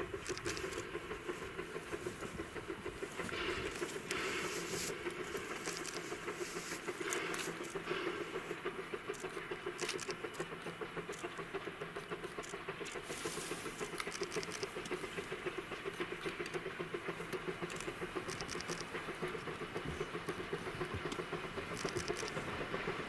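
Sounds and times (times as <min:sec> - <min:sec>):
light clicking bursts: 0:00.0 - 0:22.8
steam locomotive exhaust beating: 0:00.0 - 0:23.0.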